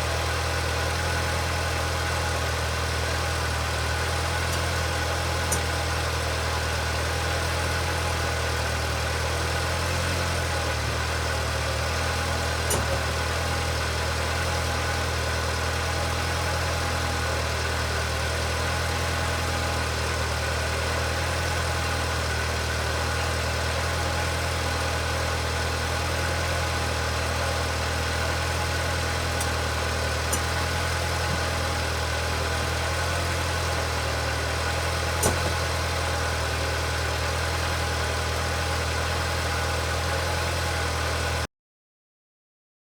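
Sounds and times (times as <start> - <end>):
engine idling: 0.0 - 41.5.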